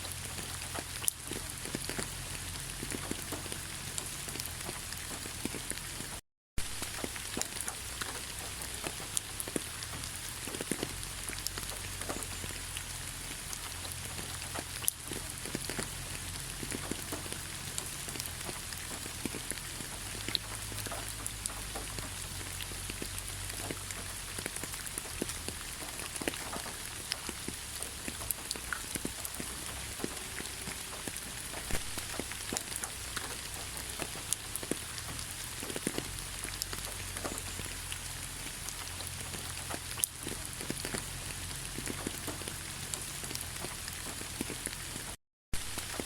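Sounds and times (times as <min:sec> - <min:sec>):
rain falling: 0:00.0 - 0:46.0
raindrops pattering: 0:00.0 - 0:46.0.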